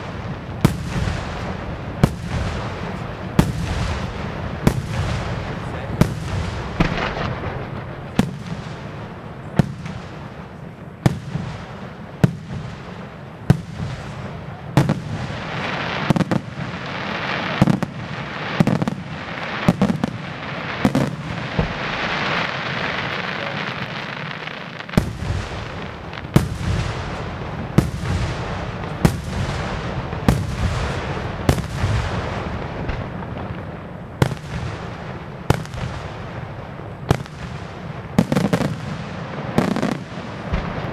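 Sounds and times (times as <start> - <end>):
firework crackling and hiss: 0.0 - 40.9.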